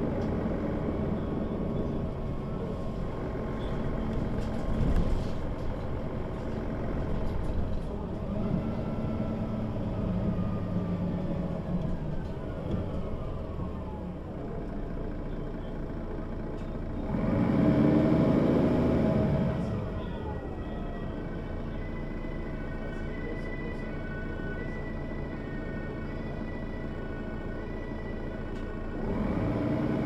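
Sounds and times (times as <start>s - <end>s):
bus diesel engine drone: 0.0s - 30.0s.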